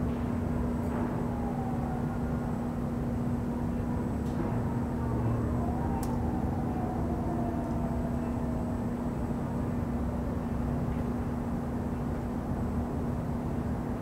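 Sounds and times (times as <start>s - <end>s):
distant city traffic rumble: 0.0s - 14.0s
machine hum: 0.0s - 14.0s.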